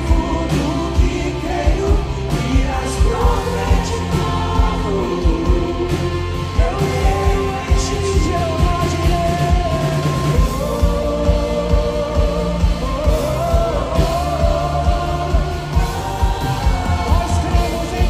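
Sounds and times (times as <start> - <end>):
backing vocals: 0.0 - 18.0
bass guitar: 0.0 - 18.0
electric guitar: 0.0 - 18.0
man singing lead vocals: 0.0 - 18.0
steady drum beat: 0.0 - 18.0.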